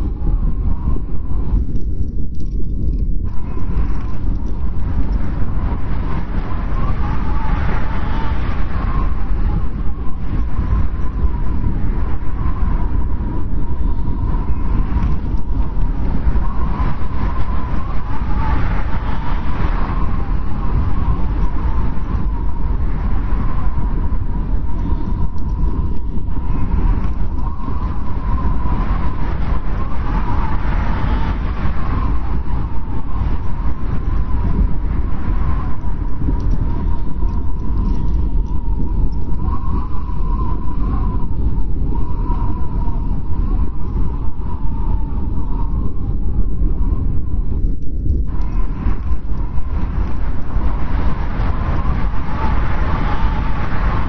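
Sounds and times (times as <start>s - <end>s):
strong wind rumbling: 0.0s - 54.0s
wind whistling: 0.0s - 54.0s.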